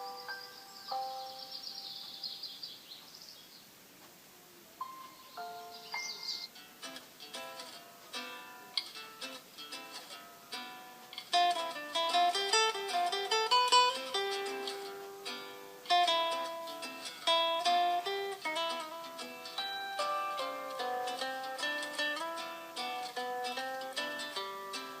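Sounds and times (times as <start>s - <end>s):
plucked string ringtone melody: 0.0s - 2.1s, 4.8s - 25.0s.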